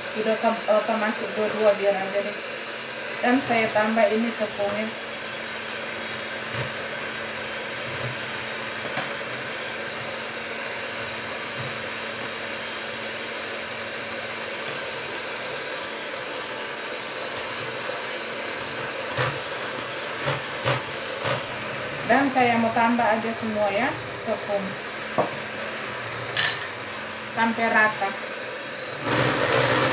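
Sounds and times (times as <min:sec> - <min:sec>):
electric hand mixer whirring: 0:00.0 - 0:29.9.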